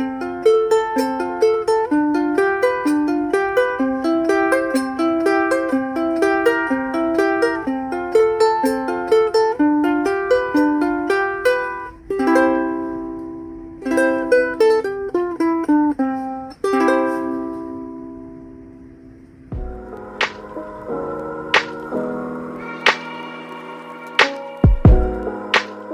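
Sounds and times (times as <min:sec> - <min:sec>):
ukulele strumming: 0:00.0 - 0:25.9.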